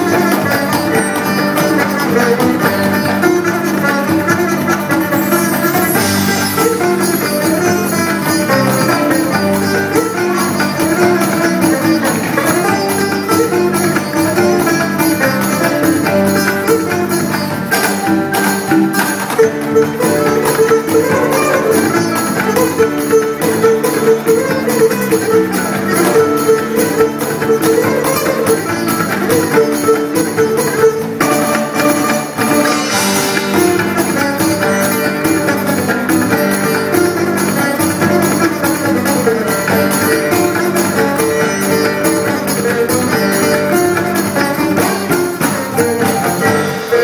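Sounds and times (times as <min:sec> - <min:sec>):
acoustic guitar: 0:00.0 - 0:47.0
cajon: 0:00.0 - 0:47.0
hand drum: 0:00.0 - 0:47.0
sitar: 0:00.0 - 0:47.0.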